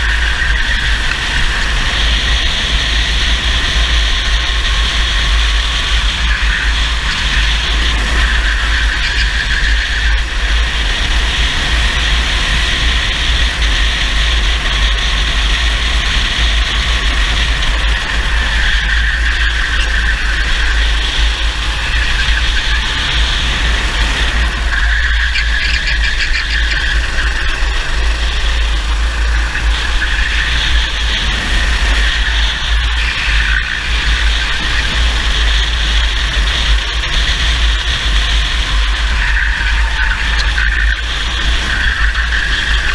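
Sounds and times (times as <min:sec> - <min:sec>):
kart engine running flat out: 0:00.0 - 0:42.9
wind rumble: 0:00.0 - 0:42.9.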